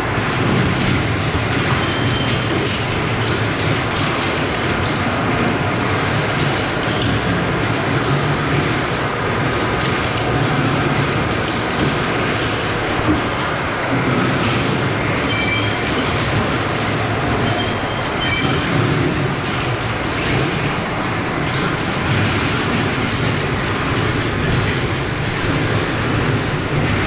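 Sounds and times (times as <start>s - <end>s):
factory machinery clatter: 0.0s - 27.0s.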